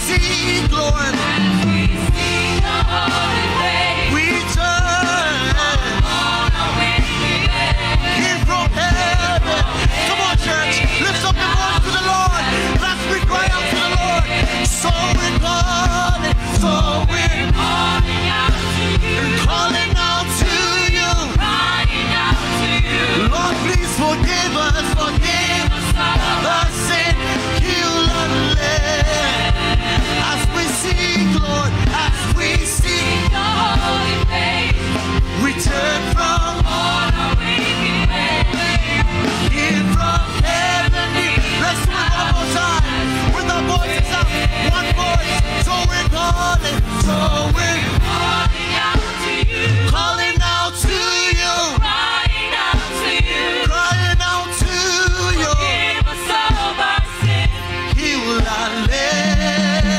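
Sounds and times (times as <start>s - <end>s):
band drums and bass: 0.0s - 59.9s
voices singing: 0.0s - 59.9s.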